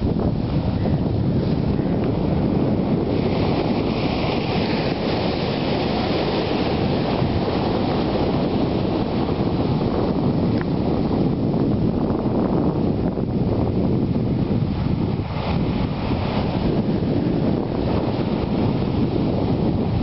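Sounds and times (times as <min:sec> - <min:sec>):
sea surf breaking: 0:00.0 - 0:20.0
wave rushing up sand: 0:00.0 - 0:20.0
wind buffeting microphone: 0:00.0 - 0:20.0.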